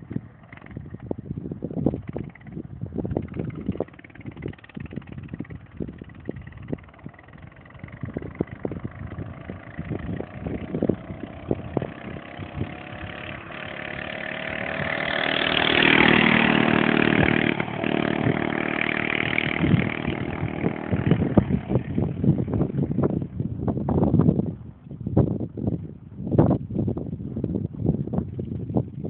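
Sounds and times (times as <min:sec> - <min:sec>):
minibike engine running: 0:00.0 - 0:23.4.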